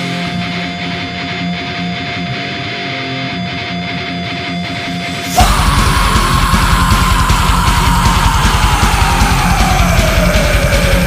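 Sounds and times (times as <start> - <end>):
heavy rock band: 0.0 - 11.0.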